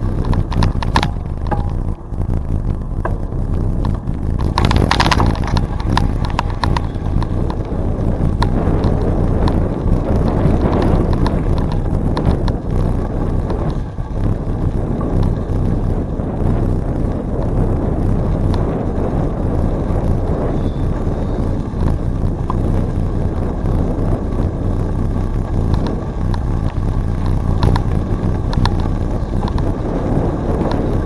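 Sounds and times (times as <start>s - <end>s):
bicycle tyre noise: 0.0s - 31.0s
bike clicks and rattles: 0.0s - 31.0s
wind on microphone: 0.0s - 31.0s.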